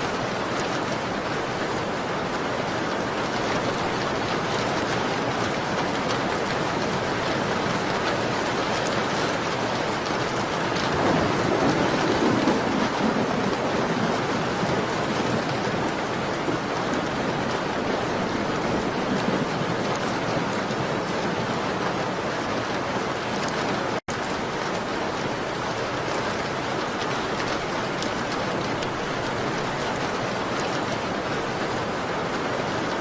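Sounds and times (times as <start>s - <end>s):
rain pattering on a window: 0.0s - 33.0s.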